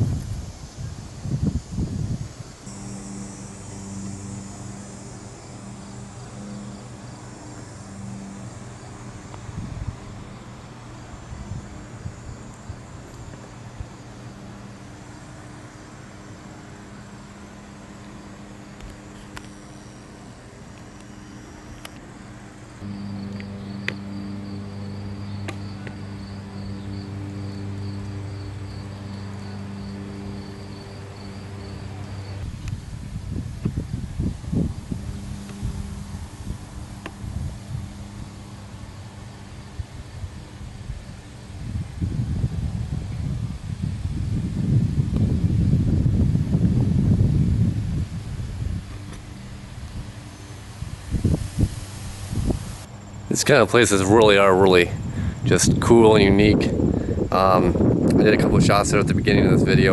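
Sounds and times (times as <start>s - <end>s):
high insect buzz: 0.0s - 59.9s
low motor hum: 0.0s - 59.9s.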